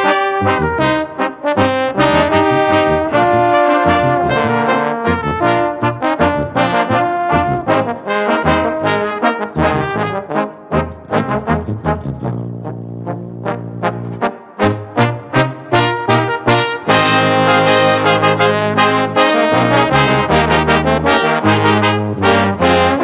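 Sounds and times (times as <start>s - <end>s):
brass band playing: 0.0s - 23.0s
tuba bass line: 0.0s - 23.0s.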